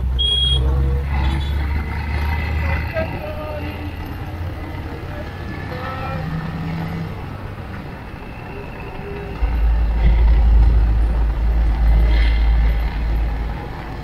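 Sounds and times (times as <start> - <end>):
motorcycle road noise: 0.0 - 14.0
lorry passing alongside: 0.6 - 14.0.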